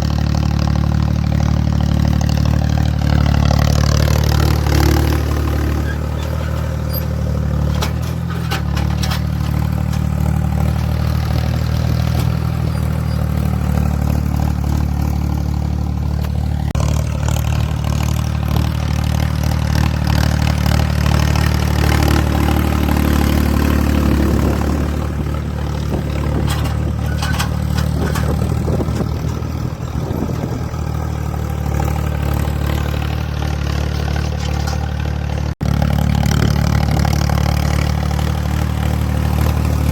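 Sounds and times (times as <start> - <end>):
engine clatter: 0.0 - 39.9
tractor engine running: 0.0 - 39.9.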